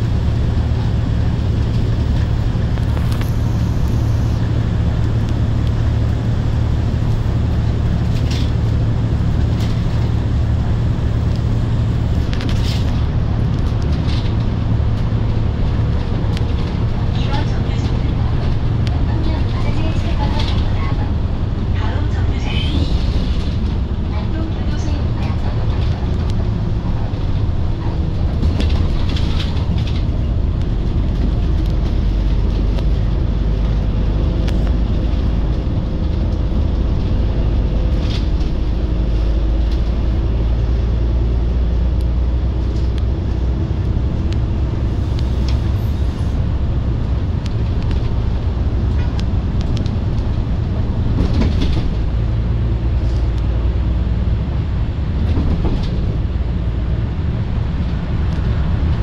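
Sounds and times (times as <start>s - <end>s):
bus engine drone: 0.0s - 59.0s
road rumble: 0.0s - 59.0s.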